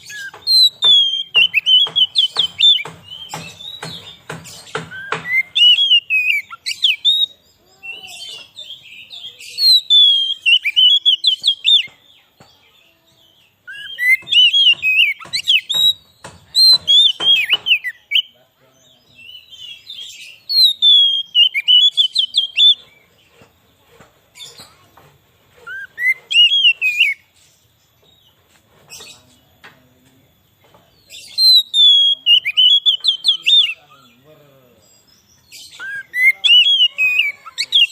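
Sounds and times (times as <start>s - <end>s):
bird singing whistled notes: 0.0s - 12.0s, 13.2s - 23.0s, 25.7s - 27.3s, 30.4s - 37.9s.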